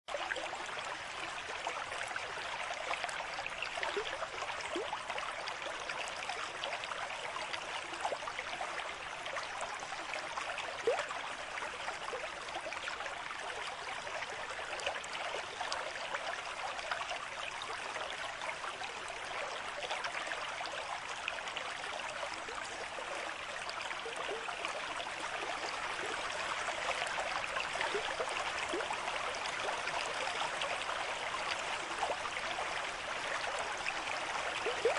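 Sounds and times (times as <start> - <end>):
stream water babbling: 0.1 - 34.9.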